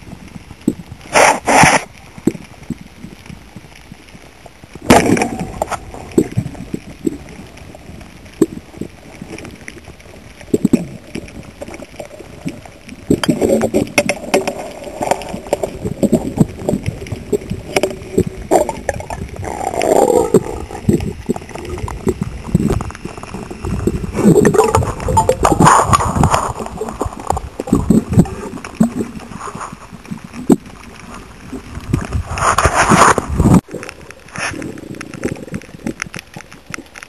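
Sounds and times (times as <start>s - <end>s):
water sloshing and gurgling: 0.0s - 37.0s.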